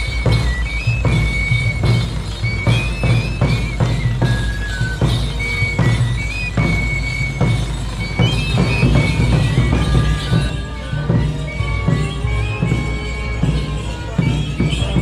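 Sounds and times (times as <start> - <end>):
high flute melody: 0.0 - 15.0.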